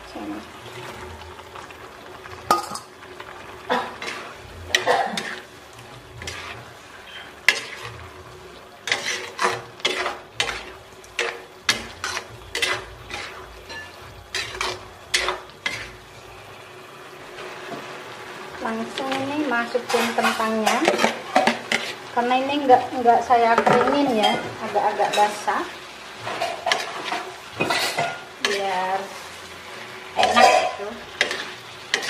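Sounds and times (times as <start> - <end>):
light sizzle: 0.0 - 32.0
spatula scraping a wok: 3.8 - 16.4, 18.6 - 32.0.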